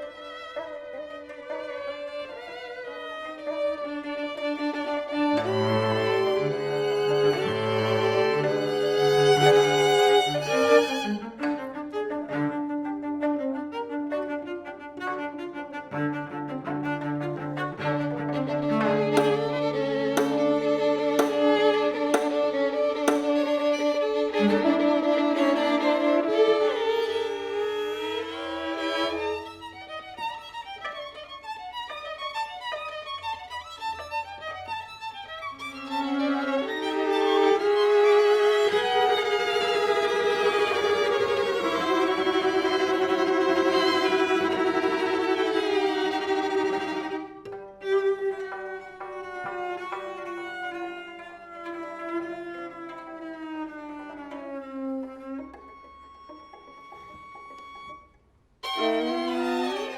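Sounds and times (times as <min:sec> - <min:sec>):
slow bowed string music: 0:00.0 - 0:59.9
violin playing: 0:00.0 - 0:59.9.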